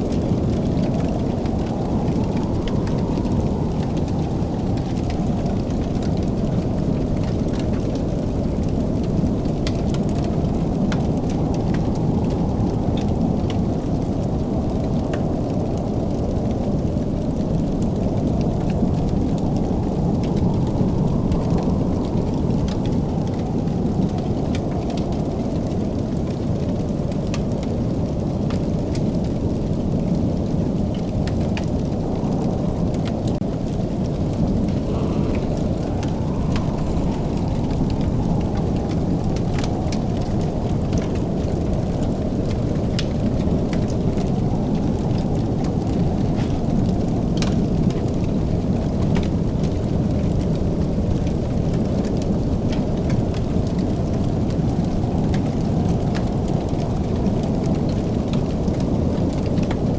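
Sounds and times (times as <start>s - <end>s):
fire crackling and popping: 0.0s - 59.9s
fire roaring in fireplace: 0.0s - 59.9s.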